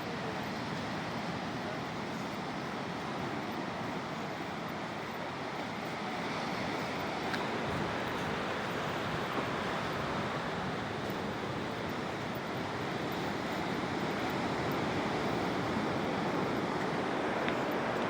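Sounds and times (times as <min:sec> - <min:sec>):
sea waves washing ashore: 0:00.0 - 0:18.0.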